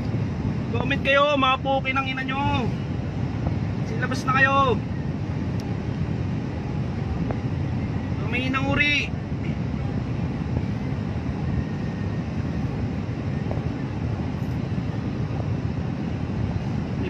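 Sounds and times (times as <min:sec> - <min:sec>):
vehicle cabin rumble: 0:00.0 - 0:17.0
wind noise on microphone: 0:00.0 - 0:17.0.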